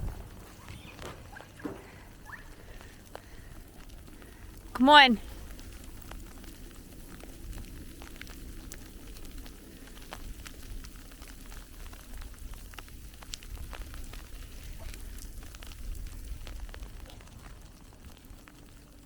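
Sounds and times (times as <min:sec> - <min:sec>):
light crackling and ticking: 0:00.0 - 0:19.0
wind rumble on microphone: 0:00.0 - 0:19.0.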